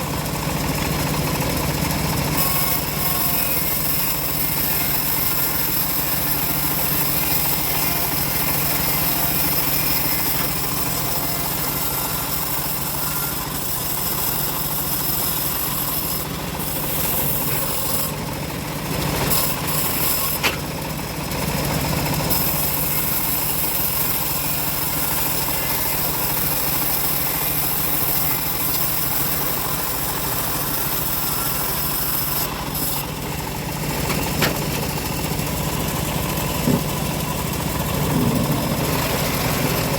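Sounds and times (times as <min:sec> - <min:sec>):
bandsaw sawmill running: 0:00.0 - 0:39.9.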